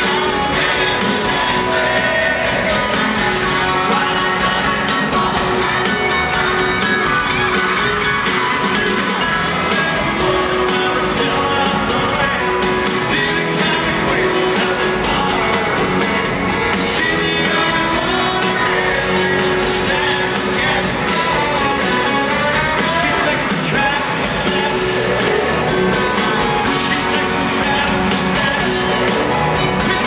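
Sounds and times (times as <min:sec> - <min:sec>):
man singing lead vocal: 0:00.0 - 0:06.0, 0:09.0 - 0:30.0
live country rock band: 0:00.0 - 0:30.0.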